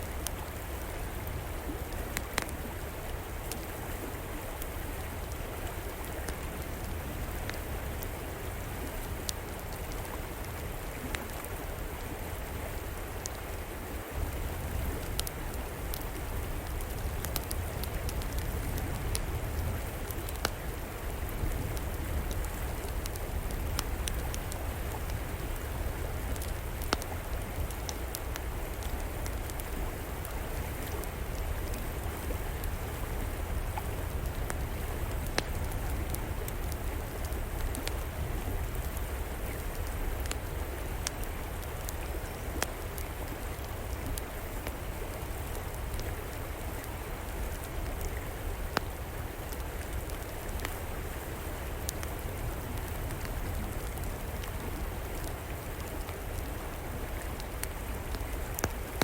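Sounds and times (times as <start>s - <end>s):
river water flowing: 0.0s - 59.0s
wood fire crackling: 0.0s - 59.0s.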